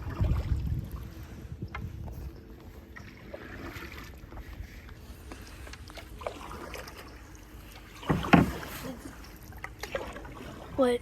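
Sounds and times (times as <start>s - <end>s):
paddle strokes: 0.0s - 11.0s.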